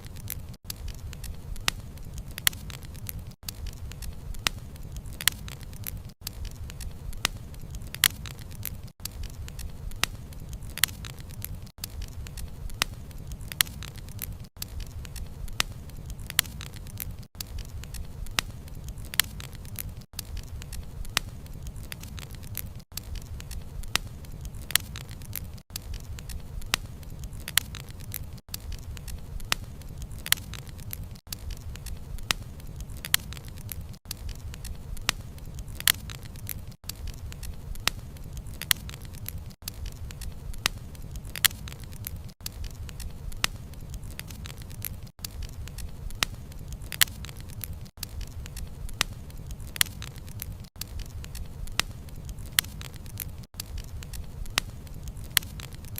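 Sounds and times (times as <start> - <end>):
burning wood crackling and popping: 0.0 - 55.9
low fire rumble: 0.0 - 55.9.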